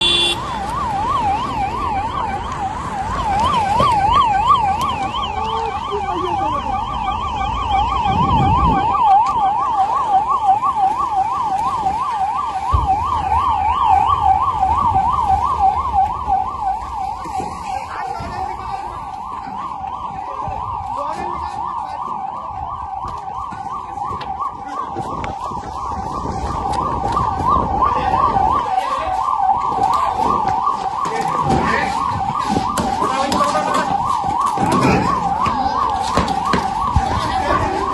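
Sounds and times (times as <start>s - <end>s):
warbling electronic siren: 0.0s - 37.9s.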